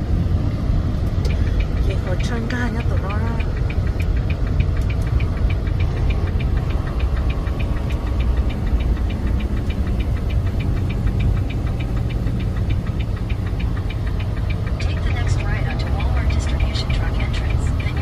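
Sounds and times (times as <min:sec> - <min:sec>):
truck engine rumble: 0:00.0 - 0:18.0
fast even ticking: 0:01.0 - 0:18.0.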